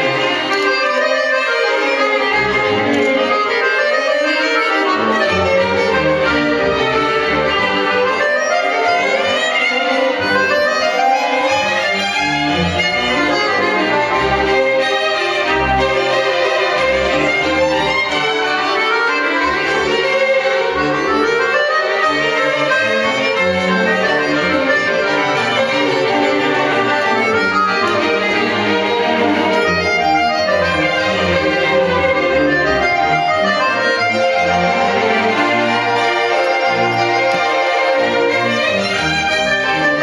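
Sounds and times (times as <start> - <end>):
accordion: 0.0 - 40.0
solo violin: 0.0 - 40.0
string orchestra: 0.0 - 40.0.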